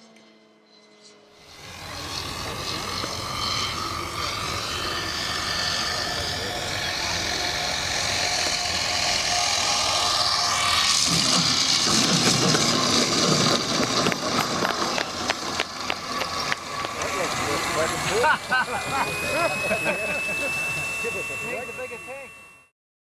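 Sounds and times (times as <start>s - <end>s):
model turboprop turbine whine: 0.0s - 22.7s
plane rolling along runway: 0.0s - 22.7s.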